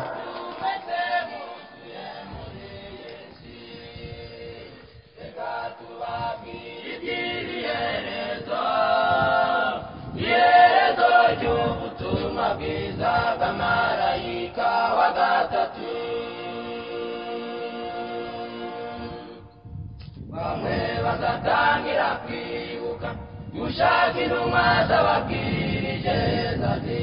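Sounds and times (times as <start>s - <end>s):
choir singing: 0.0s - 19.5s, 20.3s - 27.0s.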